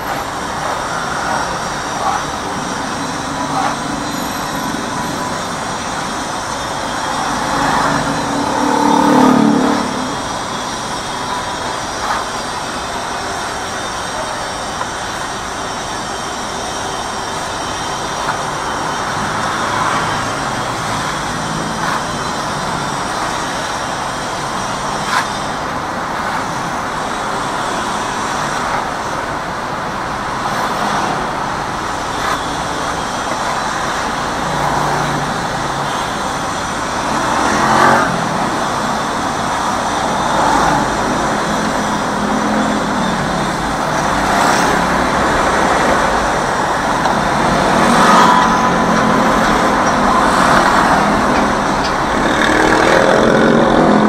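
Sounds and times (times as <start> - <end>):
motorcycles and cars idling: 0.0 - 34.6, 35.2 - 54.0.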